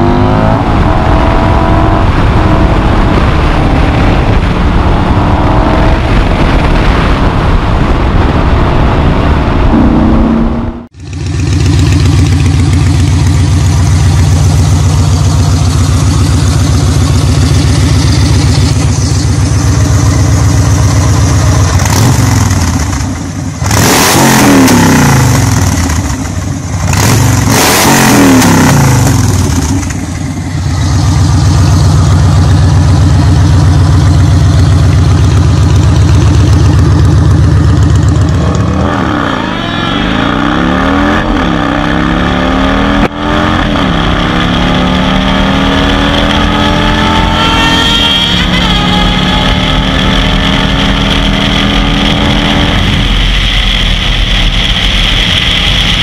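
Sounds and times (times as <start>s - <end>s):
motorcycle accelerating: 0.0s - 56.0s
motorcycle engine idling and revving: 0.0s - 56.0s.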